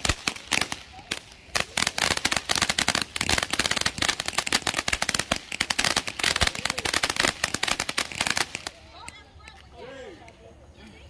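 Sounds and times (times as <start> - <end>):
firework fountain crackling: 0.0 - 11.0.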